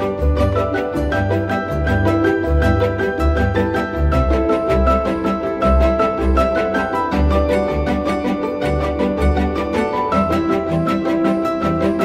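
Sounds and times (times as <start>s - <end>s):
instrumental music with plucked strings: 0.0s - 12.0s.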